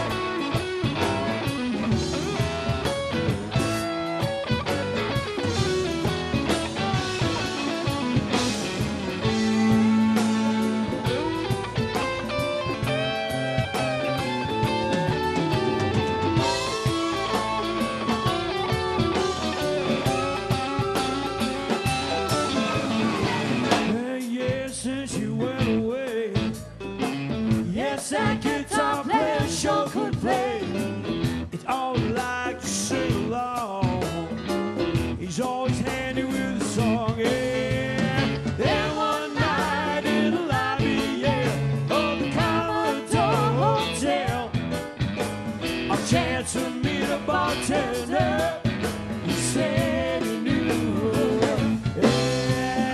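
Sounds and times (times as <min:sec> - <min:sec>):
bass guitar: 0:00.0 - 0:52.9
drums: 0:00.0 - 0:52.9
keyboard: 0:00.0 - 0:52.9
lead electric guitar: 0:00.0 - 0:52.9.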